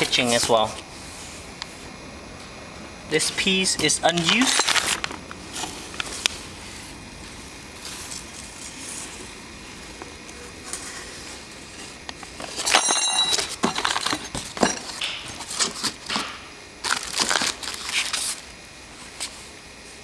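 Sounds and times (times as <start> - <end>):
plastic packaging crinkling: 3.2 - 19.4.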